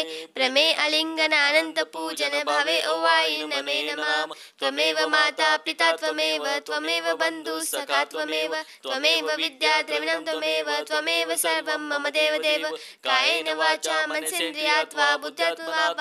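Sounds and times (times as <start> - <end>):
woman singing devotional hymn: 0.0 - 16.0.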